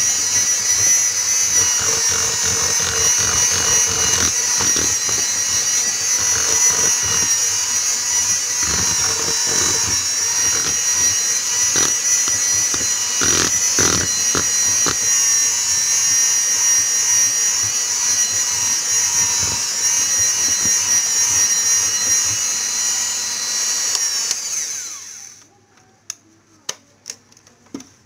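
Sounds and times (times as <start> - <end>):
electric hand mixer whining: 0.0 - 25.4.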